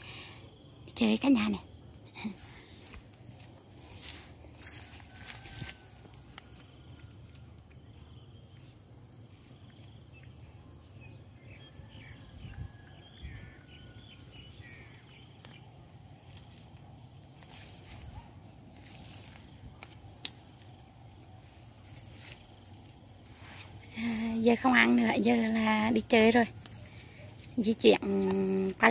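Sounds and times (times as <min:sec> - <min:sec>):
insect trilling: 0:00.0 - 0:28.9.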